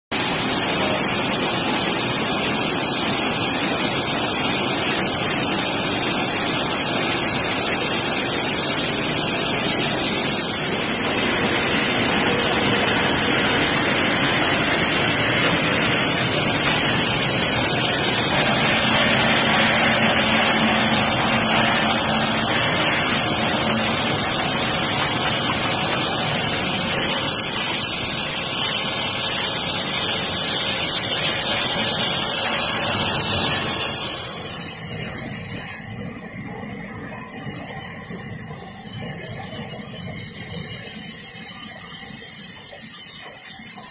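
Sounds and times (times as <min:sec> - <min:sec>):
machinery noise: 0:00.1 - 0:43.9
rushing hiss of water and air: 0:00.1 - 0:43.9.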